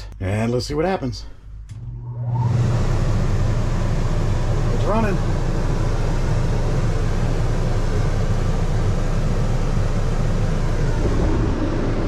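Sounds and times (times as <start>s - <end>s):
air conditioner rumbling: 0.0s - 12.0s.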